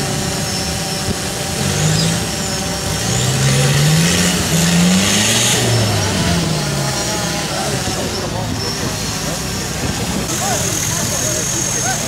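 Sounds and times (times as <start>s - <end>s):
diesel engine revving hard: 0.0s - 12.0s.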